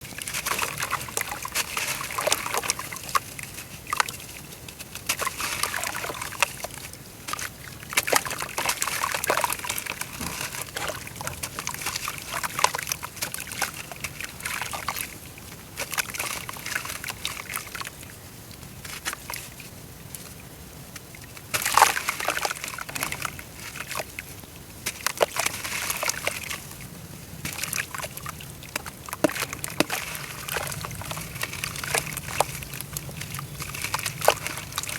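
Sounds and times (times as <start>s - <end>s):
dirt crackling and fizzing in water: 0.0s - 18.0s, 20.9s - 34.9s
water sloshing: 0.0s - 19.6s, 21.2s - 34.9s.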